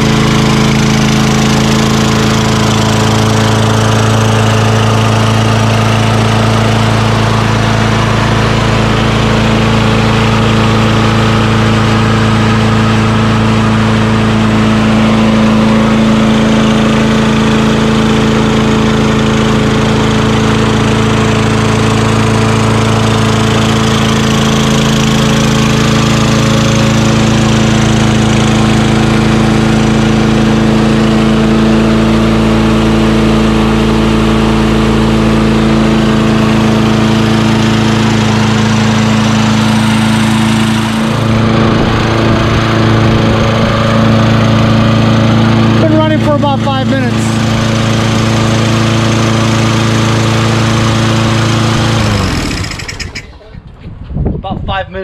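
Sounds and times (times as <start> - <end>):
lawn mower engine running: 0.0 - 53.5.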